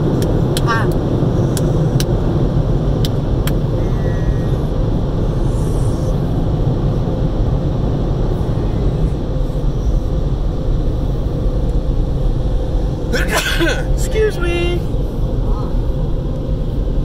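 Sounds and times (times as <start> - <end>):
car wash machinery rumbling: 0.0 - 17.0
faint hum: 0.0 - 17.0.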